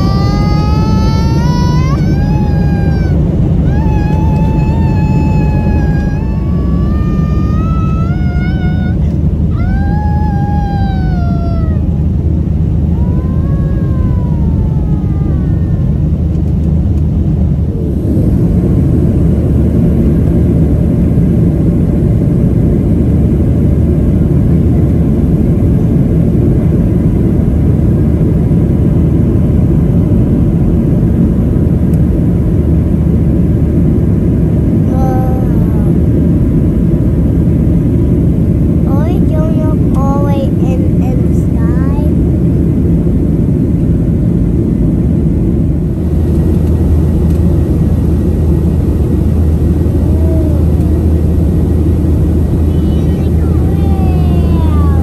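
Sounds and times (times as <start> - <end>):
airliner engines rumbling in cabin: 0.0 - 55.0.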